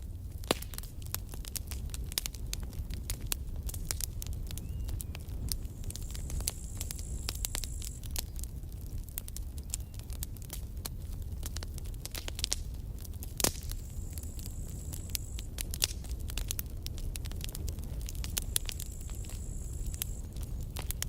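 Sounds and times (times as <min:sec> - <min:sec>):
campfire crackling and popping: 0:00.0 - 0:21.0
low rumble of flames: 0:00.0 - 0:21.0.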